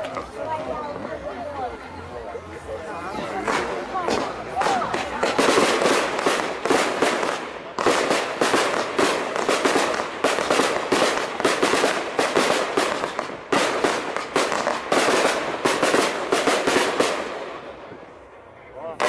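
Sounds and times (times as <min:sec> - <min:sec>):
fireworks barrage: 0:03.1 - 0:19.0.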